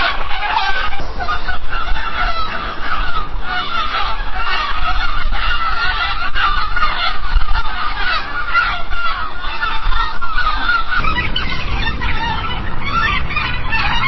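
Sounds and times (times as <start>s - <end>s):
seagulls calling: 0.0s - 14.0s.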